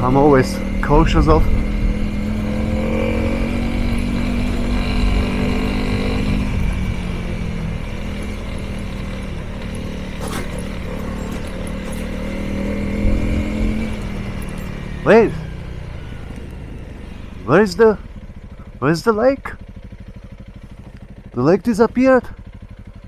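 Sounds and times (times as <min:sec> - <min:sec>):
motorcycle engine running slowly: 0:00.0 - 0:23.0.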